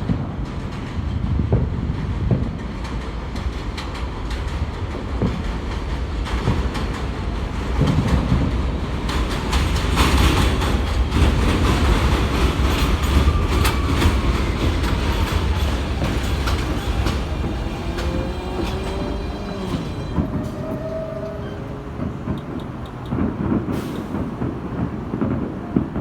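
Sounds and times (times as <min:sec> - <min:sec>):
subway train wheels clacking: 0:00.0 - 0:26.0.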